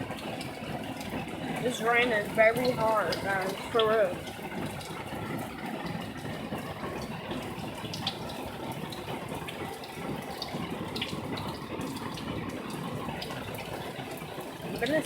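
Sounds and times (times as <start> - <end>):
heavy rain pouring: 0.0 - 15.0
raindrops ticking nearby: 0.0 - 15.0.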